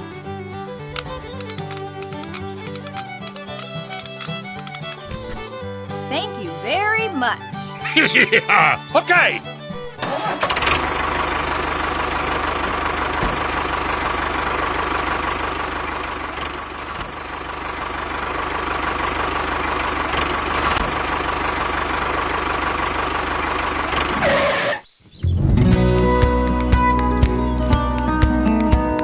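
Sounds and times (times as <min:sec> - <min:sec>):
motor running: 0:00.0 - 0:24.6.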